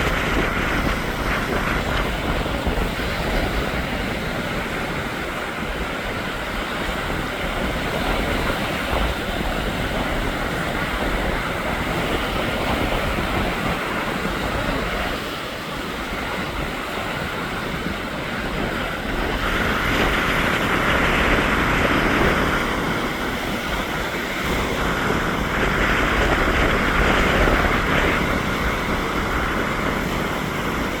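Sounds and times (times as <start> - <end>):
steady low rumble: 0.0 - 31.0
strong wind: 0.0 - 31.0
waves breaking on shore: 0.0 - 31.0.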